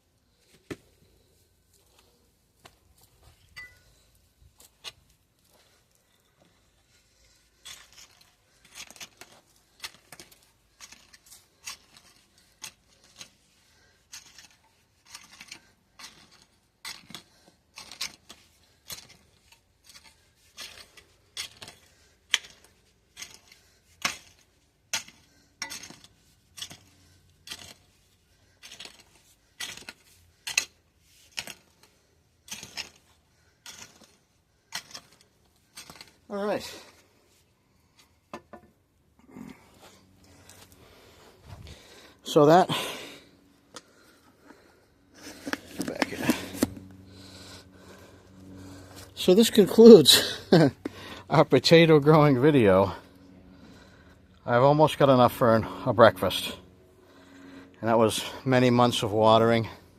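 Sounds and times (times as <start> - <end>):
digging in dry soil: 0.0 - 59.9.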